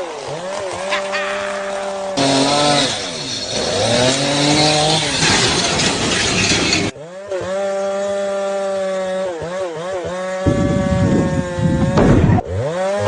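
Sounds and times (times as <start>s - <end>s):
chainsaw cutting into wood: 0.0s - 13.0s
chainsaw running: 0.0s - 13.0s.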